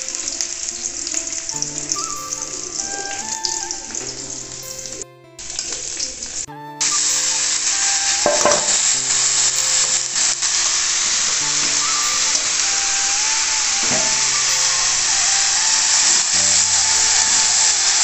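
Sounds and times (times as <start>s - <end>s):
onions and mushrooms sizzling in oil: 0.0s - 18.0s.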